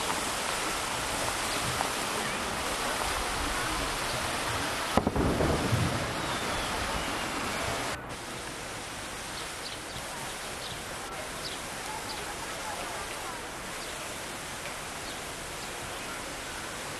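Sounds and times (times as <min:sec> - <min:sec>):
fountain water splashing: 0:00.0 - 0:16.9.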